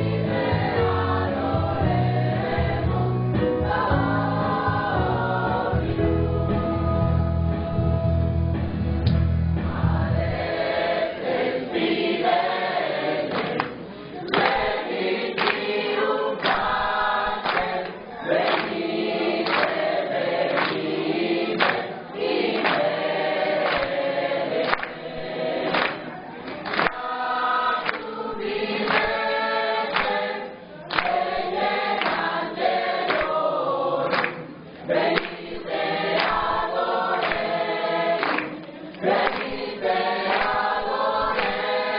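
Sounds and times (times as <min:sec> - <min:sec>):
church choir singing: 0:00.0 - 0:08.4, 0:09.6 - 0:41.9.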